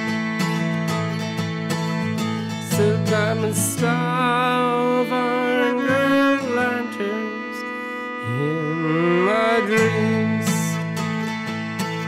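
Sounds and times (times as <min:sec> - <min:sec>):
acoustic guitar playing: 0:00.0 - 0:12.0
bowed cello notes: 0:00.0 - 0:12.0.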